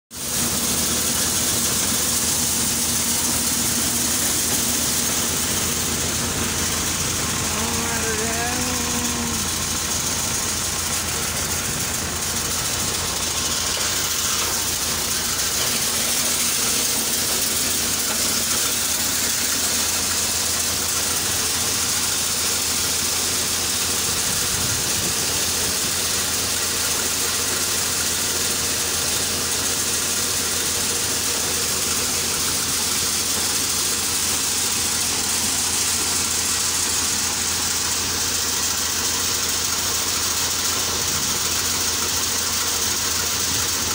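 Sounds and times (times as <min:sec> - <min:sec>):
tractor diesel engine: 0:00.1 - 0:43.9
thresher running: 0:00.2 - 0:43.9.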